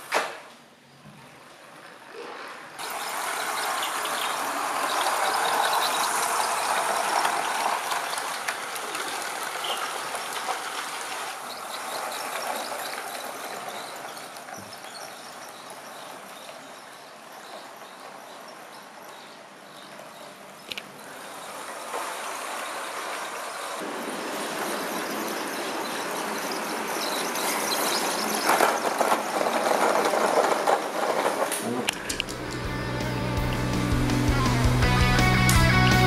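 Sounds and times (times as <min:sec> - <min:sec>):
model train wheels rattling: 0:01.4 - 0:36.0.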